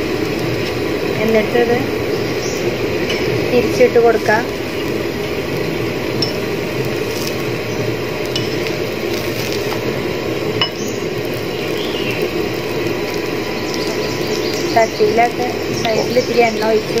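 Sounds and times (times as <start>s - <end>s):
flatbread sizzling on griddle: 0.0s - 17.0s.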